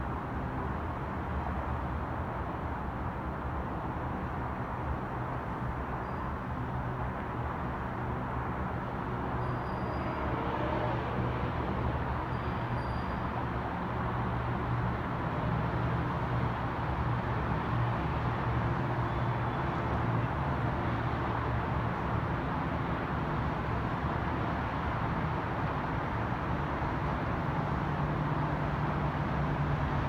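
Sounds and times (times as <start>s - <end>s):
distant city traffic: 0.0s - 30.0s.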